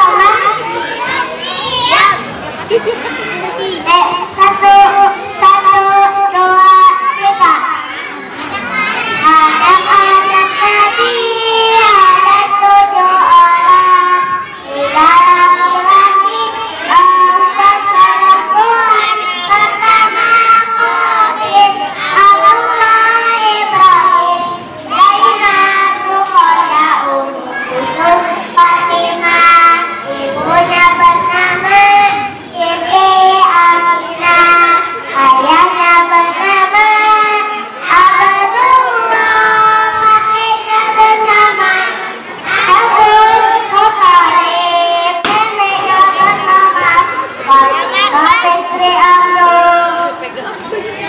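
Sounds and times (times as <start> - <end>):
children singing: 0.0 - 50.3.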